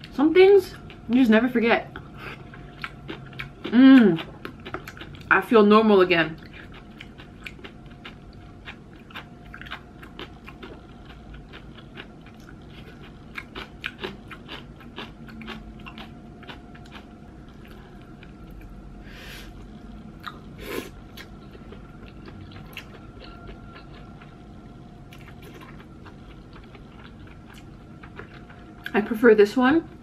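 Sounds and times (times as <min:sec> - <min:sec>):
chewing and mouth sounds: 0:01.9 - 0:05.4, 0:06.3 - 0:18.8, 0:19.6 - 0:29.1.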